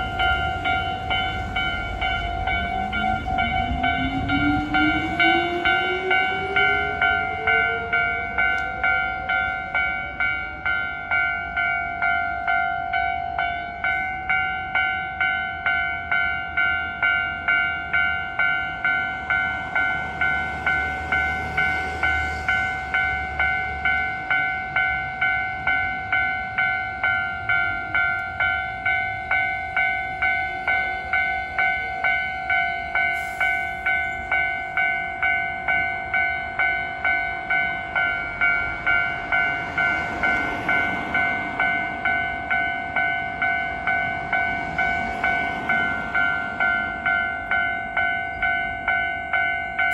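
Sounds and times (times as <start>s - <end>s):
electric train running: 0.0s - 11.2s, 17.5s - 49.9s
level crossing warning bell: 0.0s - 49.9s.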